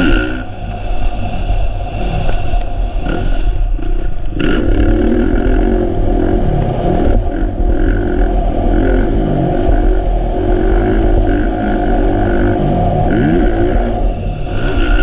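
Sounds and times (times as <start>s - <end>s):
motorcycle engine revving: 0.0s - 0.5s, 3.0s - 15.0s.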